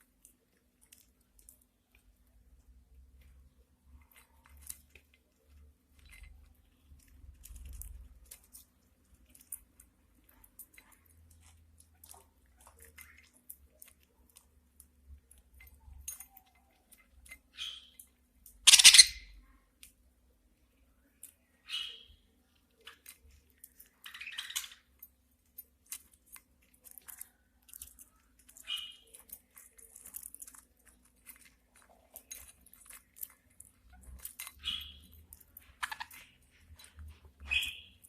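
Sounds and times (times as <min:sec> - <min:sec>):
beaks husking seeds: 0:00.0 - 0:38.0.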